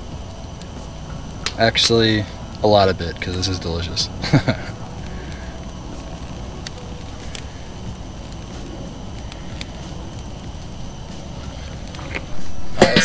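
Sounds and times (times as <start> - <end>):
fire popping and crackling: 0.0 - 13.0
fish sizzling on a grill: 0.0 - 13.0.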